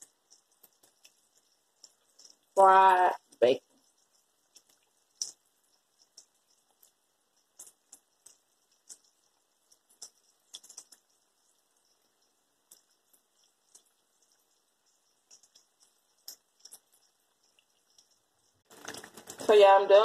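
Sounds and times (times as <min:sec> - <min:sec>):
bacon frying in oil: 0:00.0 - 0:20.0.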